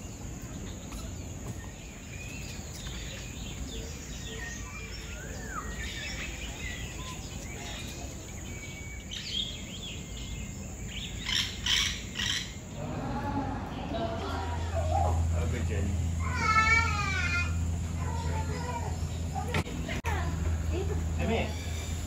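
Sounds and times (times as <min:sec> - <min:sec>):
high insect hum: 0:00.0 - 0:22.0
low outdoor rumble: 0:00.0 - 0:22.0.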